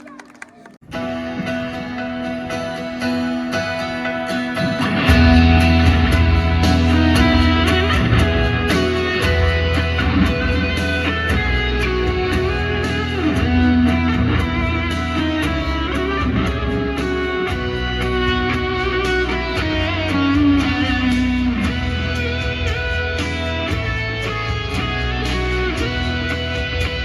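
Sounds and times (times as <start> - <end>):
electric guitar: 0.8 - 27.0
bass: 1.0 - 27.0.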